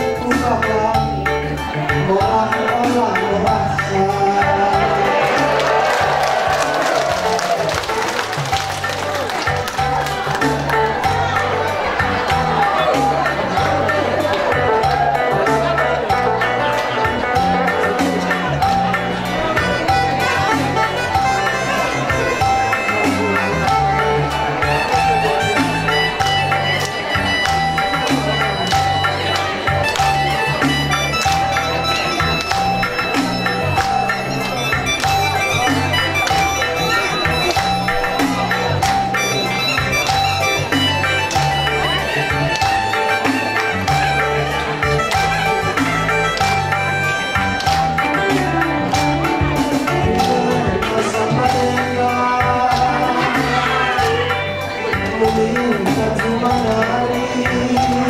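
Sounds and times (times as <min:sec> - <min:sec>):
reedy wind instrument melody: 0:00.0 - 0:55.3
bass line: 0:00.0 - 0:58.0
live band music: 0:00.0 - 0:58.0.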